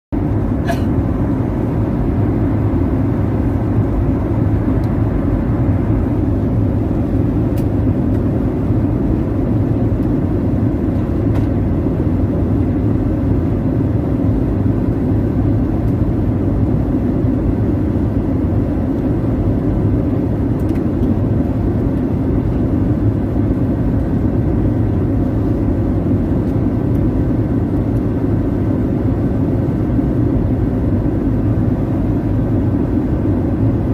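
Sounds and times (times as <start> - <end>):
airliner cabin roar: 0.1 - 33.9.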